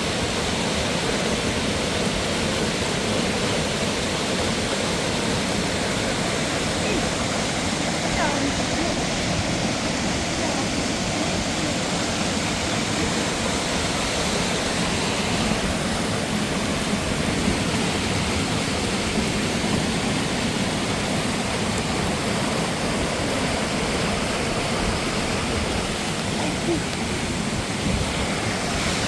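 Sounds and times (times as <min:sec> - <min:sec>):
rushing mountain water: 0:00.0 - 0:29.0.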